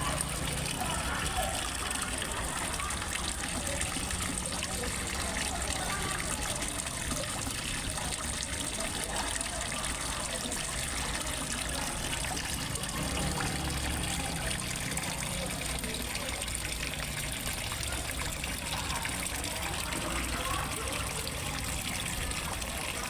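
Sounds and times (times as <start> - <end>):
small waterfall trickling and splashing: 0.0 - 23.0.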